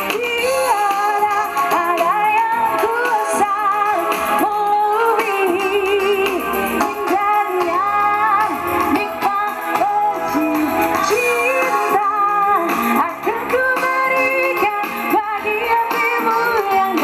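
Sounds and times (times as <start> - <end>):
musical backing: 0.0 - 17.0
woman singing: 0.0 - 17.0.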